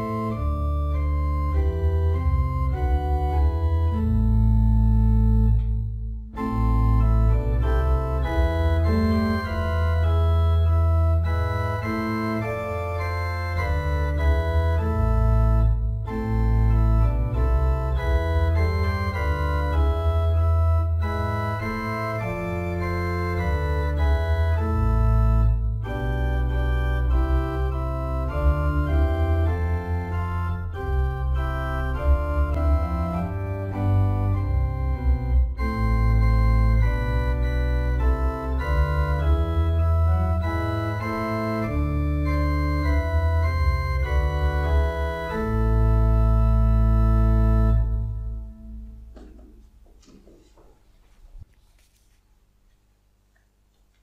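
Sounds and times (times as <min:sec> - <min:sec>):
organ playing held chords: 0:00.0 - 0:49.9.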